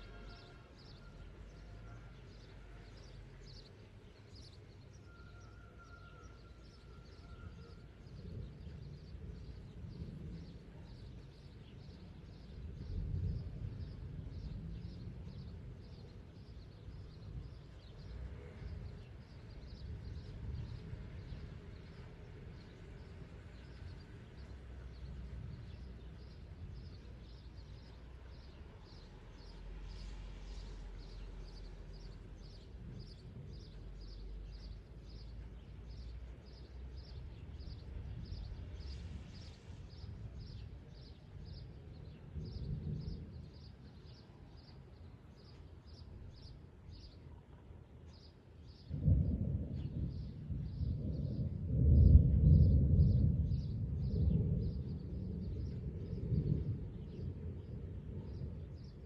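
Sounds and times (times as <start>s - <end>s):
wind rumble on microphone: 6.6s - 59.0s.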